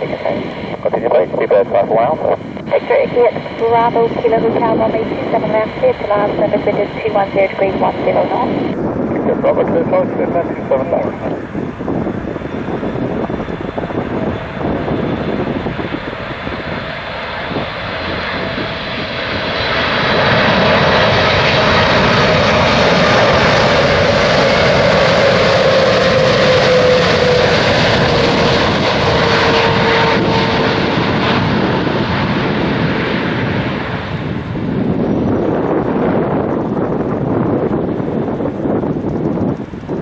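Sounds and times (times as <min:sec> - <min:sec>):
jet engines passing with whine: 0:00.0 - 0:40.0.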